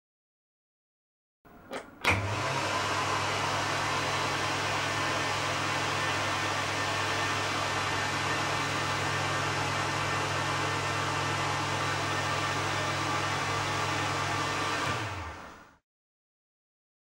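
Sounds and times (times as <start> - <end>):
electric hand dryer blowing: 1.7 - 15.8.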